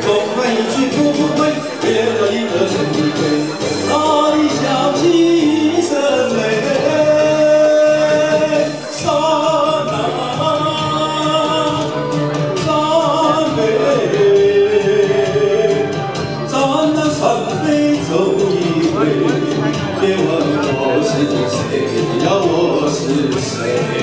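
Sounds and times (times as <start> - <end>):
instrumental accompaniment: 0.0 - 24.0
man singing a ballad: 0.0 - 24.0.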